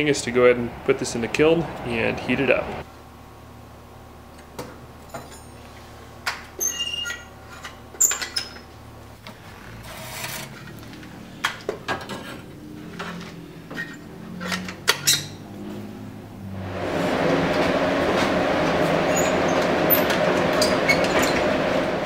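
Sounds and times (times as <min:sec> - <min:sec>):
steady low hum: 0:00.0 - 0:06.6, 0:07.2 - 0:22.0.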